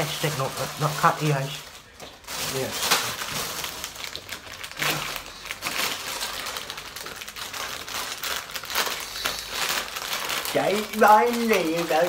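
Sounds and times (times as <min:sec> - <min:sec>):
plastic snack packets crinkling: 0:00.0 - 0:12.0.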